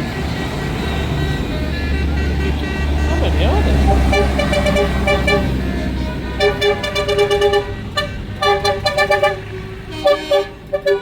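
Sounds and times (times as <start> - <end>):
engine running low: 0.0 - 11.0
vehicle horn short blasts: 2.2 - 11.0.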